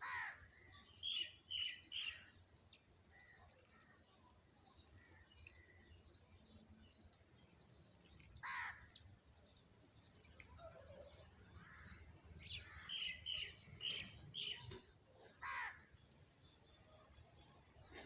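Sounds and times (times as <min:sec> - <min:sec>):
sparrows chirping: 0:00.2 - 0:18.0.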